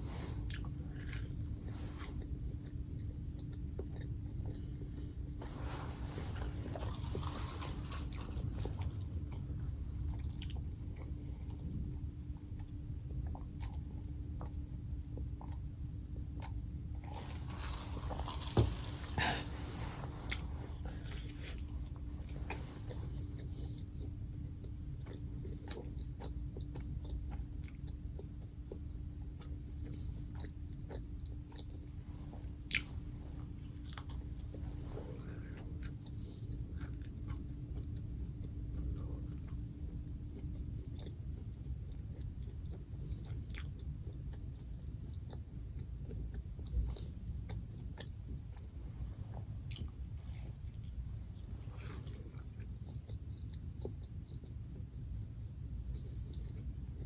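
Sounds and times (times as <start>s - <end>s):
chewing and biting food: 0.0s - 57.0s
low hum: 0.0s - 57.0s.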